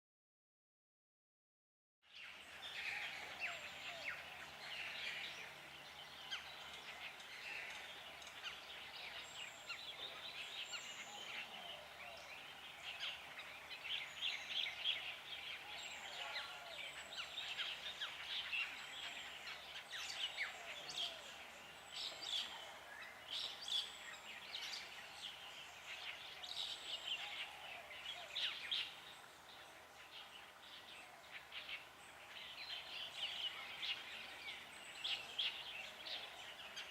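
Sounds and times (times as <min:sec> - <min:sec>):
birds calling and singing: 0:02.1 - 0:36.9.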